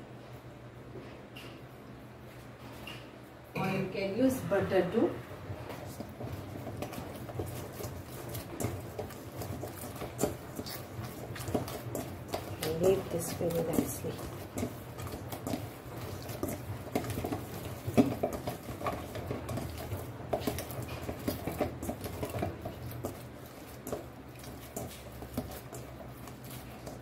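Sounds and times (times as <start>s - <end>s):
steady low hum: 0.0s - 27.0s
dough squishing and slapping metal: 3.6s - 27.0s.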